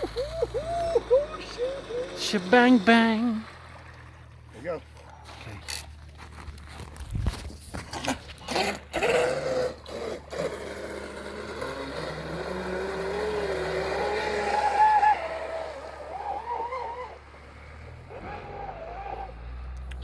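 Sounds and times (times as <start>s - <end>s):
rc boat electric motor whine: 0.0s - 4.6s, 8.1s - 19.9s.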